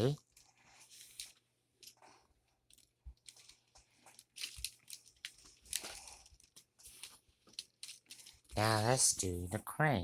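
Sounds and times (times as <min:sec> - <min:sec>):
plastic clicks and rustles: 0:00.2 - 0:08.9.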